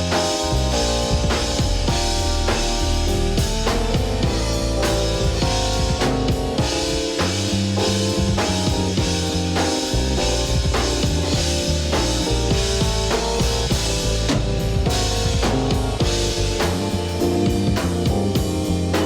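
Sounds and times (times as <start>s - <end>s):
drum hits: 0.0s - 18.7s
walking bass line: 0.0s - 18.9s
held keyboard chords: 0.0s - 19.0s
live band instrumental groove: 0.0s - 19.0s.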